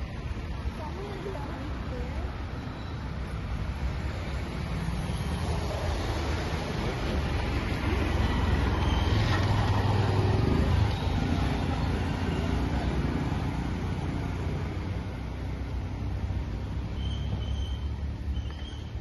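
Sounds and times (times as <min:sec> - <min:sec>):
motorbikes passing: 0:00.0 - 0:19.0
traffic rumble: 0:00.0 - 0:19.0.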